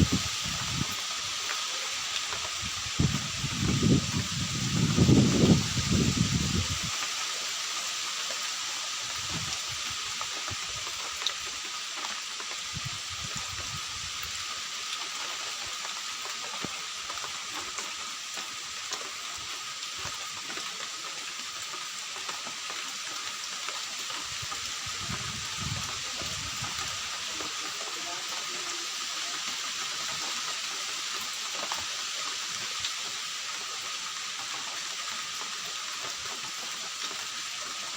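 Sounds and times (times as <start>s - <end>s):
falling rain hiss: 0.0s - 37.9s.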